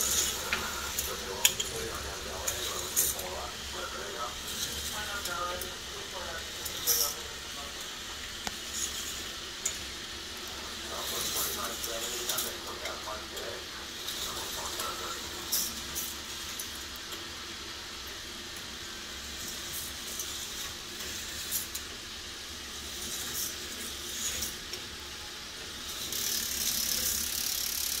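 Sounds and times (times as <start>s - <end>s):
cars clicking on plastic track: 0.0s - 10.0s, 10.7s - 25.0s, 25.6s - 28.0s
whirring hiss and hum of motors: 0.0s - 28.0s.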